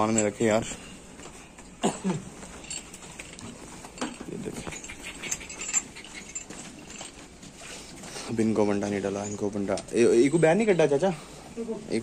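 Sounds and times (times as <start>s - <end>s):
faint knocks and shuffling: 0.0s - 12.0s.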